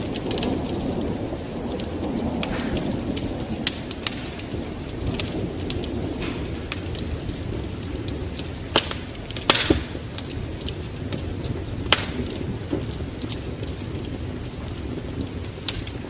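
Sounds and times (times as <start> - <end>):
fire hissing: 0.0 - 16.0
fire snapping and popping: 0.0 - 16.0
low rumble of flames: 0.0 - 16.0.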